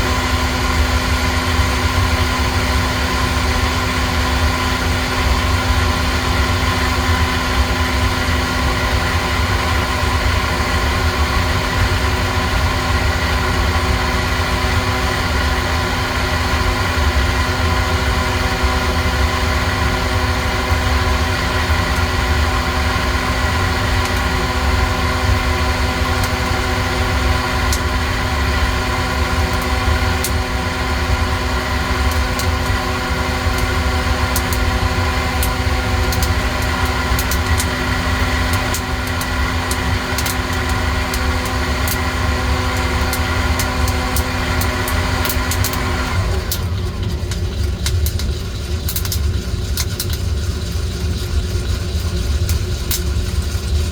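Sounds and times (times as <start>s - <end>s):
coffee roaster motor humming: 0.0s - 53.9s.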